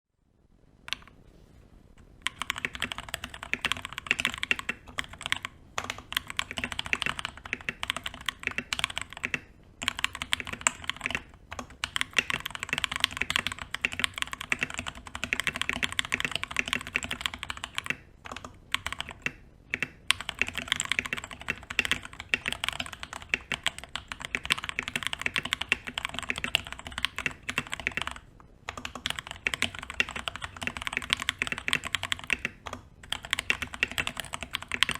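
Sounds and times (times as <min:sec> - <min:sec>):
mechanical keyboard keys clacking: 0:02.2 - 0:34.9.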